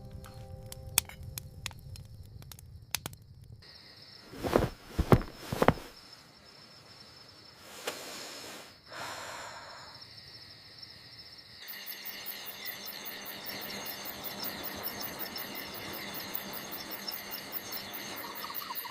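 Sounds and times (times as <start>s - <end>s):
crickets chirping: 0.0s - 18.9s.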